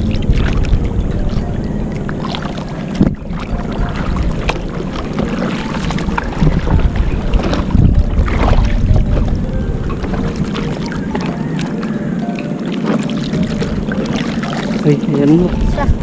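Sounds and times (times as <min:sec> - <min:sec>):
paddle splashing in water: 0:00.0 - 0:15.8
wind rumble on microphone: 0:00.0 - 0:16.0.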